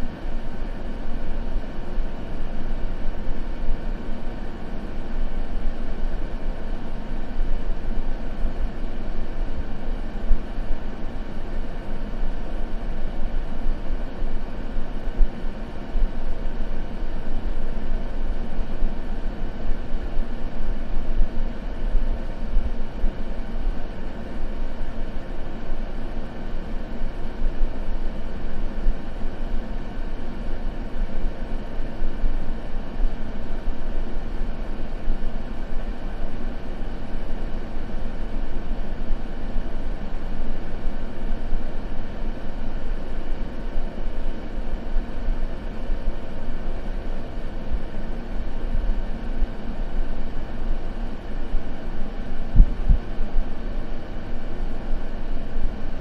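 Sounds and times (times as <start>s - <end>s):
steady white noise: 0.0s - 56.0s.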